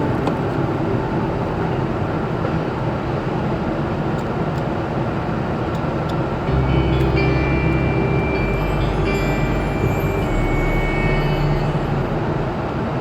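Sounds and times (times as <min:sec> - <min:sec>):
car wash water spray and machinery: 0:00.0 - 0:13.0.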